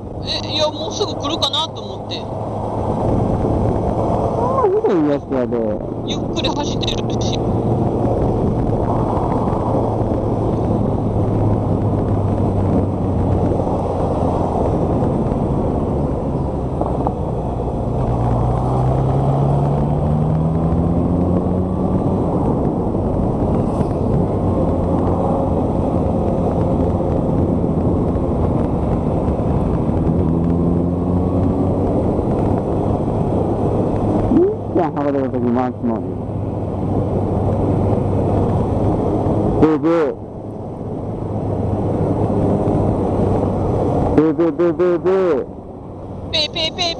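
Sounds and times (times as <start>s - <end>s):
wind rush: 0.0s - 34.8s, 36.0s - 44.2s.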